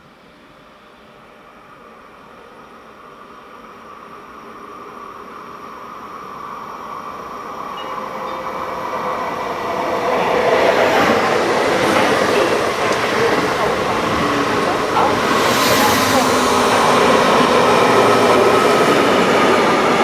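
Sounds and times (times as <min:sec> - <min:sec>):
diesel locomotive approaching: 0:00.0 - 0:20.0.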